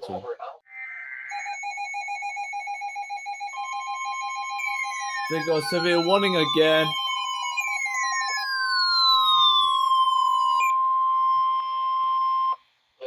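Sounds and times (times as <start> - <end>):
steady high alarm tone: 0.8 - 12.6
tones sliding down in pitch: 1.3 - 12.6.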